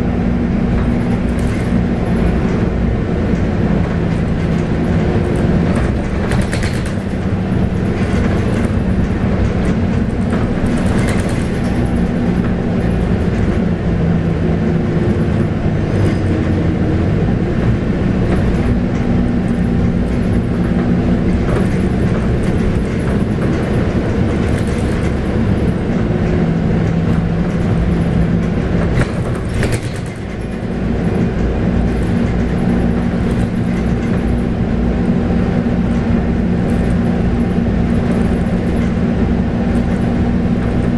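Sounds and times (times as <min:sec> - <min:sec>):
diesel bus engine drone: 0:00.0 - 0:40.9
road noise: 0:00.0 - 0:40.9.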